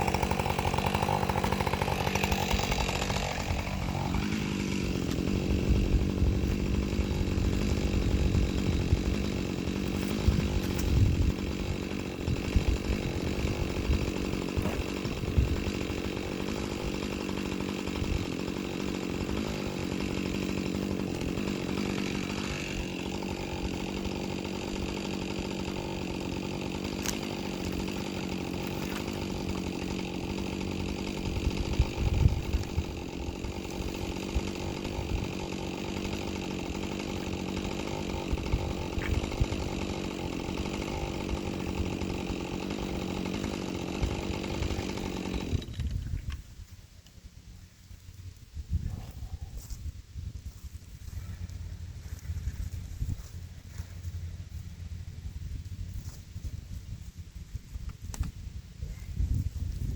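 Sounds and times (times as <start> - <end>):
chainsaw cutting wood: 0.0 - 47.2, 50.6 - 59.9.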